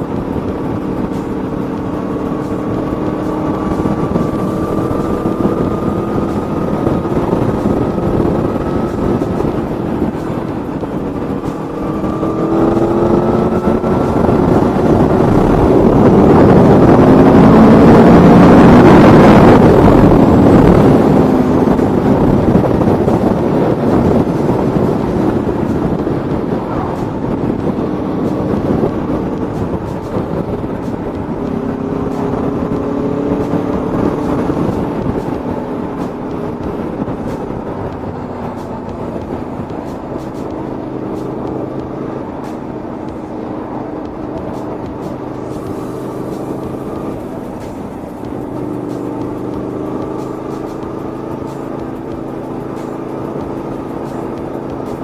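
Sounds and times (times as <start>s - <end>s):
motorcycle engine accelerating: 0.0s - 55.0s
rushing sound: 0.0s - 55.0s.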